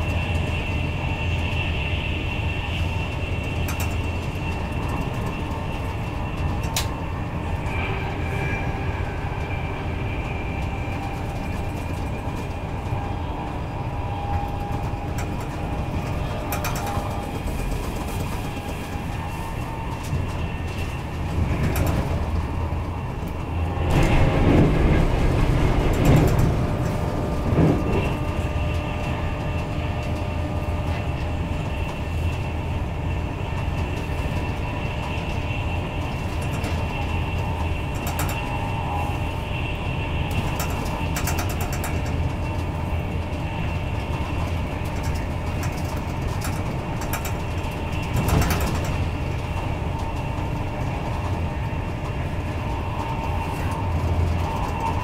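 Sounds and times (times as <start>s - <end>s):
rail noise: 0.0s - 55.0s
train running rumble: 0.0s - 55.0s.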